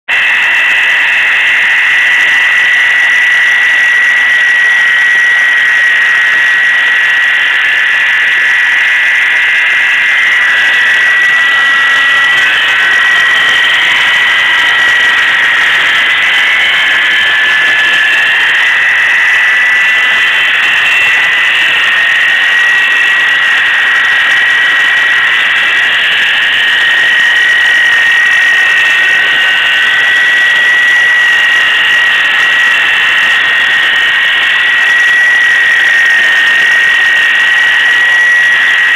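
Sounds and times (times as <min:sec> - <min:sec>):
high-pitched pulley squeal: 0:00.1 - 0:38.9.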